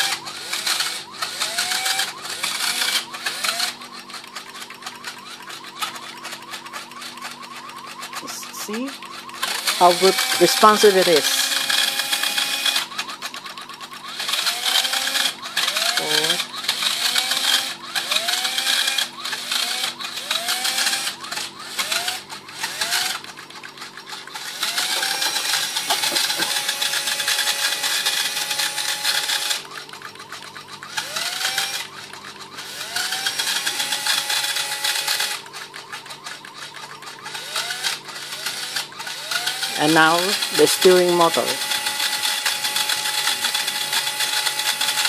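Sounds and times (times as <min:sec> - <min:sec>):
electric motor whine: 0:00.0 - 0:45.0.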